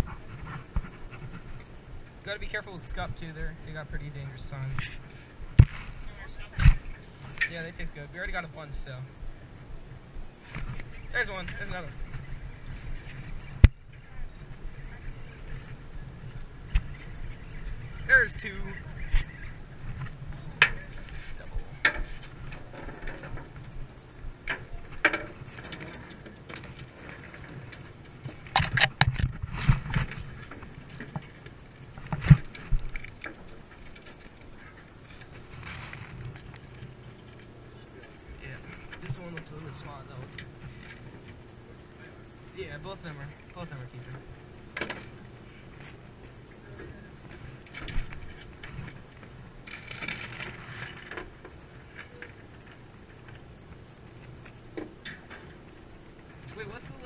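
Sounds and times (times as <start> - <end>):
rustle: 0.0 - 57.0
steady low hum: 0.0 - 57.0.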